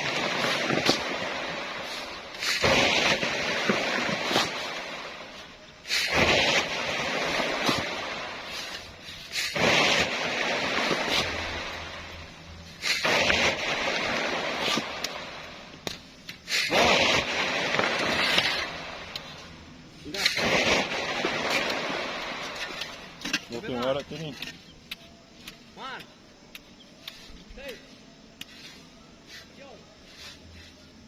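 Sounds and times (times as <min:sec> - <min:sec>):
shovel scraping sand: 0:00.0 - 0:31.0.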